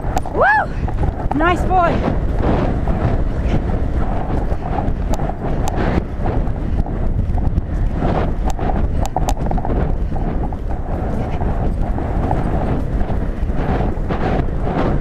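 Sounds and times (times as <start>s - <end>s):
horse hoofbeats galloping: 0.0s - 15.0s
wind rumble on microphone: 0.0s - 15.0s.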